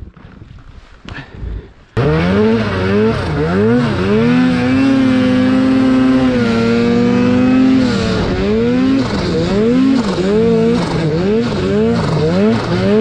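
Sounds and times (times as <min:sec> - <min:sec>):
snowmobile engine revving: 0:02.0 - 0:13.0.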